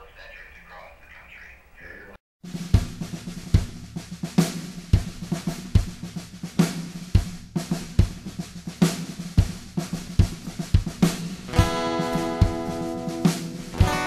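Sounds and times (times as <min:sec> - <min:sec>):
drum kit playing a steady beat: 0:02.4 - 0:14.0.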